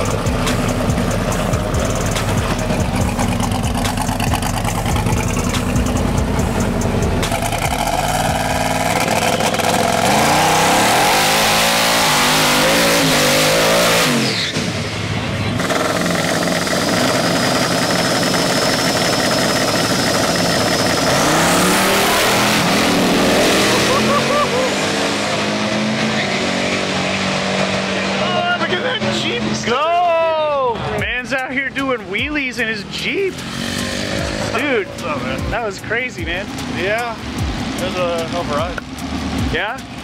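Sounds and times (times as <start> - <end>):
engine revving: 0.0 - 29.8, 32.0 - 40.0.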